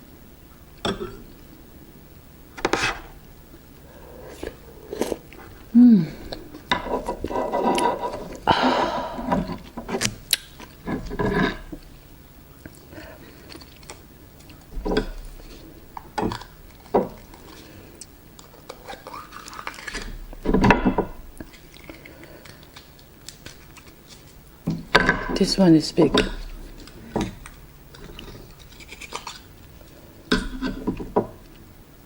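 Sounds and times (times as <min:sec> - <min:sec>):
oysters chewed and slurped: 0:03.5 - 0:20.5, 0:21.1 - 0:24.6, 0:25.4 - 0:31.8.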